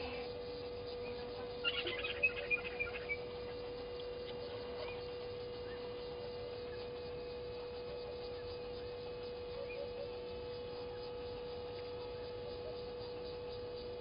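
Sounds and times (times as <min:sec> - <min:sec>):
steady mid-pitched hum: 0:00.0 - 0:14.0
faint bird chirps: 0:00.4 - 0:14.0.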